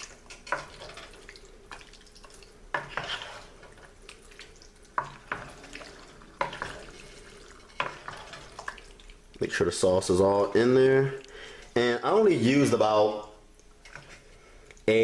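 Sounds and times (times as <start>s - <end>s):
spoon stirring thick stew: 0.0s - 9.5s, 10.4s - 14.9s.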